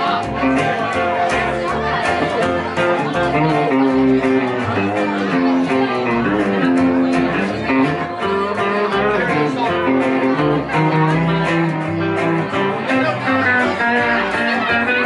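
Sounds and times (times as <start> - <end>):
electric guitar notes: 0.0 - 15.0
plucked upright bass: 0.0 - 15.0
second guitar: 0.0 - 15.0.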